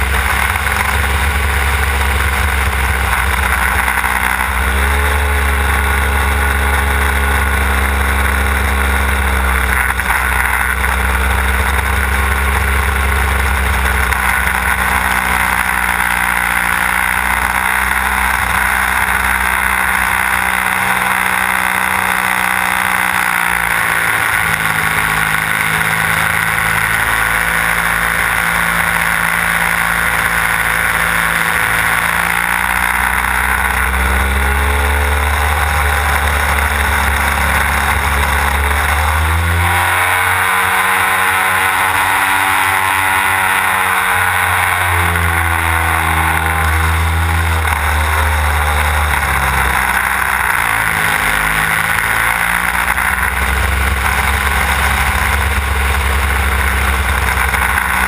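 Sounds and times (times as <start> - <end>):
model plane engine and propeller: 0.0 - 58.0.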